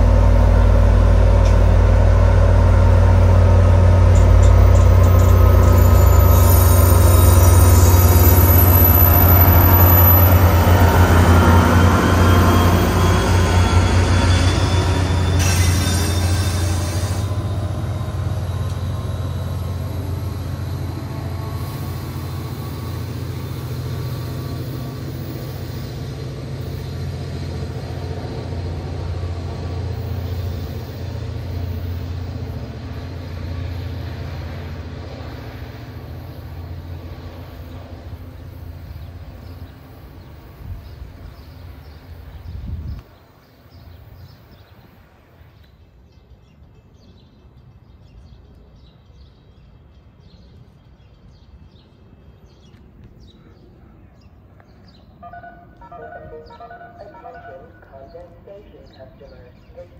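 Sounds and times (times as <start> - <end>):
train running past: 0.0 - 59.9.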